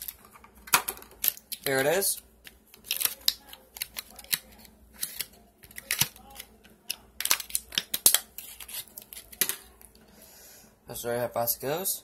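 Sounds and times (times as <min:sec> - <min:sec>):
plastic wrapping rustling: 0:00.0 - 0:10.0.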